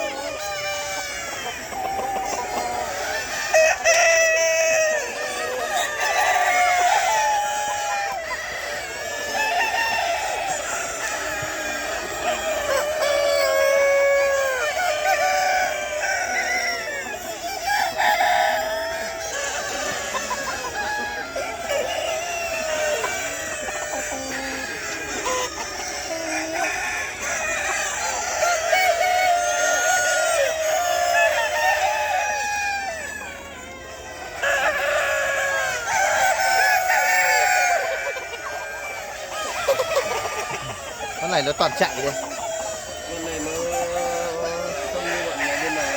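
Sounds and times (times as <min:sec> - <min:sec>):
chickens clucking and squawking: 0:00.0 - 0:45.9
roosters crowing: 0:00.0 - 0:45.9.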